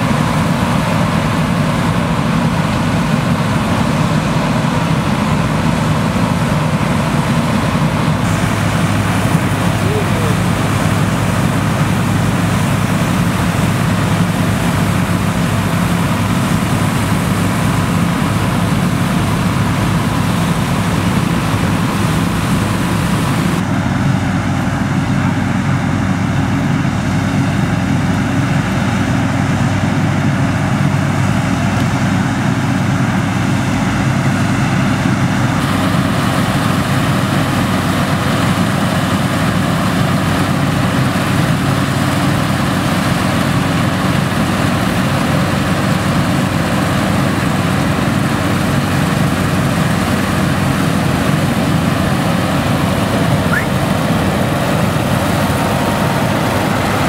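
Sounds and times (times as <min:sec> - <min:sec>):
threshing machinery running: 0:00.0 - 0:57.0
tractor engines: 0:00.0 - 0:57.0.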